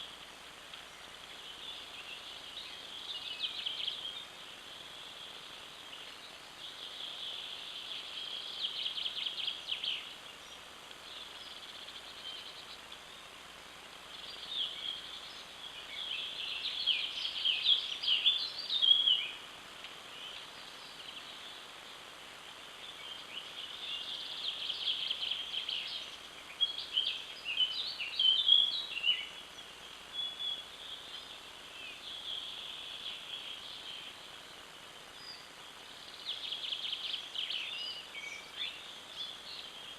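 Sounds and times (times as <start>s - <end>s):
birds chirping: 0.0s - 39.9s
faint outdoor hiss: 0.0s - 39.9s.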